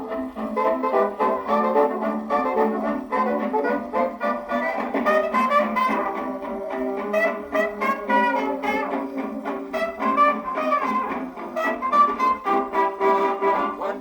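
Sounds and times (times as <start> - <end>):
dance band record on gramophone: 0.0 - 14.0.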